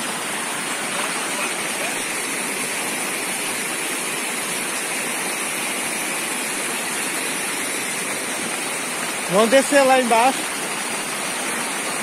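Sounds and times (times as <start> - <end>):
waterfall cascading over rocks: 0.0 - 12.0.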